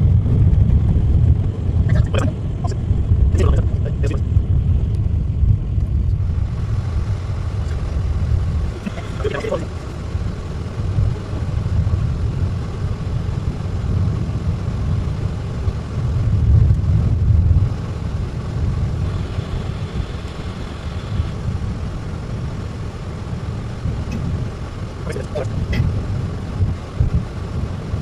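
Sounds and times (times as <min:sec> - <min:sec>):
car driving on snow: 0:00.0 - 0:28.0.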